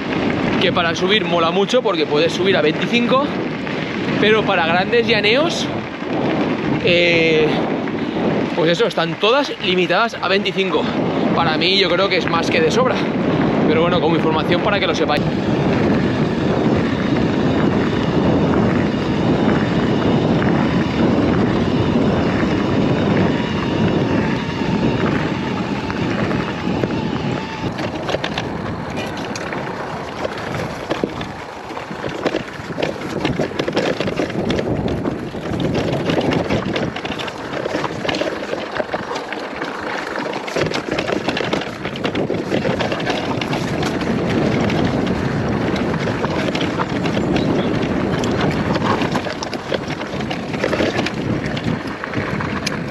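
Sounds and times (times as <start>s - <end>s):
bike knocks and rattles: 0.0s - 52.9s
bike tyre noise: 0.0s - 52.9s
wind buffeting microphone: 0.0s - 52.9s.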